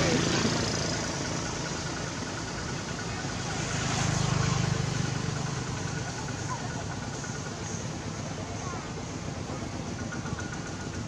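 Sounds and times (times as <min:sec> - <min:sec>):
passing motor vehicle engine hum: 0:00.0 - 0:11.0.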